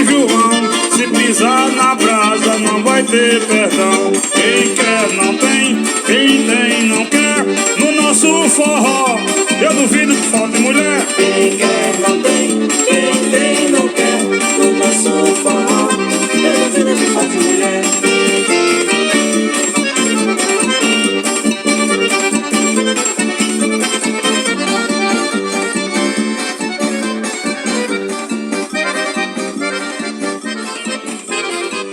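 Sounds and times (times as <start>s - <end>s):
accordion melody: 0.0s - 31.9s
percussion beat: 0.0s - 31.9s.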